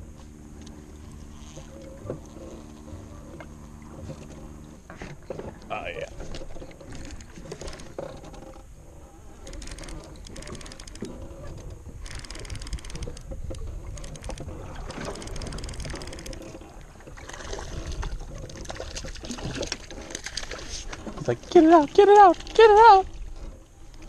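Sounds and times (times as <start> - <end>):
boat engine low rumble: 0.0 - 24.0.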